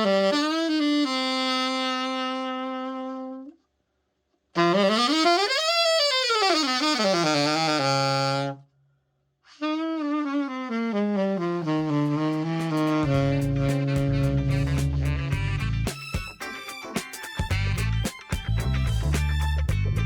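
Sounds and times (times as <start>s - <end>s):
alto saxophone playing: 0.0s - 3.6s, 4.6s - 8.7s, 9.5s - 19.6s.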